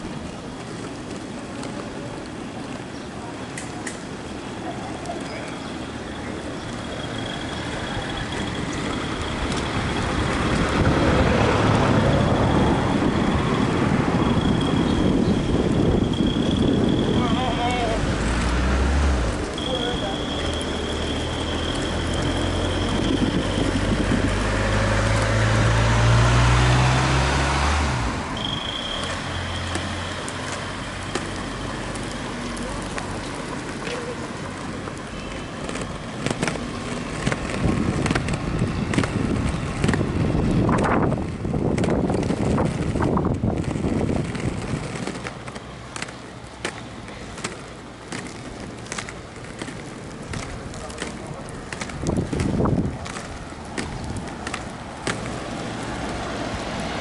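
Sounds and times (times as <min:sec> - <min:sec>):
rolling and wind noise: 0:00.0 - 0:57.0.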